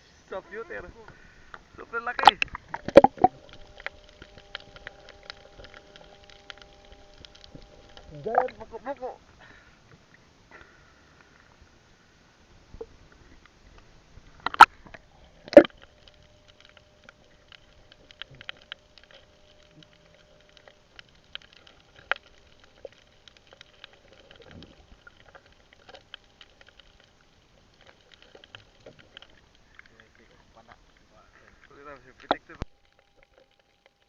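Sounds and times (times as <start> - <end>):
faint clicking and crackling: 0.0 - 34.0.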